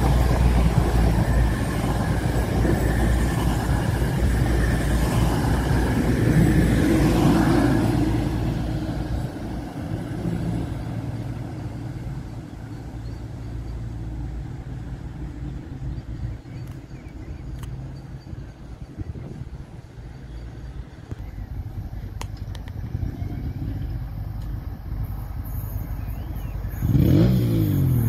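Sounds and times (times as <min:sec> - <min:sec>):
diesel train passing: 0:00.0 - 0:28.0.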